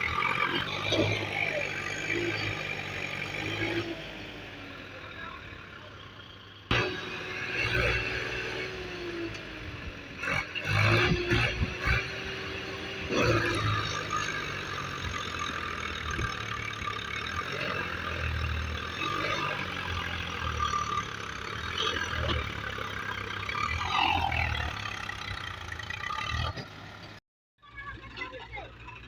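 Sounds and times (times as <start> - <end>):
tractor engines under load: 0.0 - 29.0.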